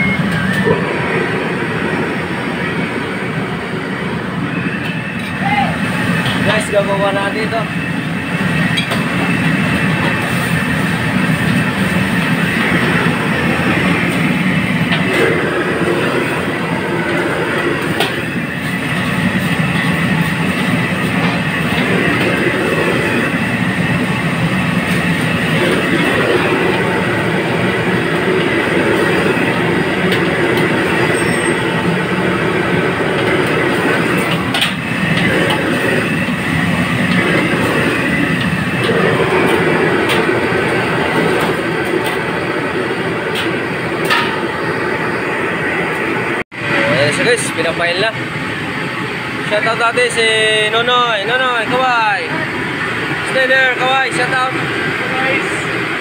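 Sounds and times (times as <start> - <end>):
gas burner and exhaust roar: 0.0 - 56.0.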